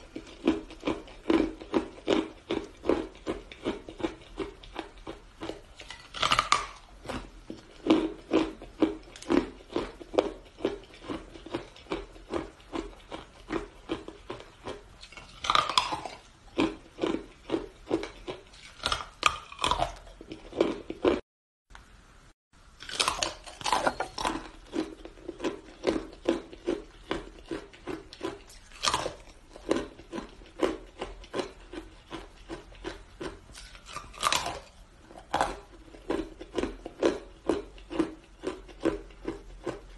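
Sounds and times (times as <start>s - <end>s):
ice being chewed: 0.0s - 21.2s, 22.8s - 39.9s.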